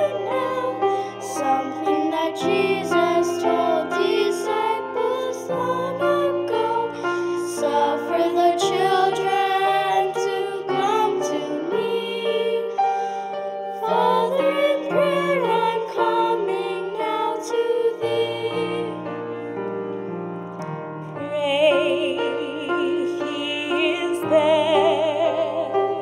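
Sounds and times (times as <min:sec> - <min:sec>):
piano chords: 0:00.0 - 0:26.0.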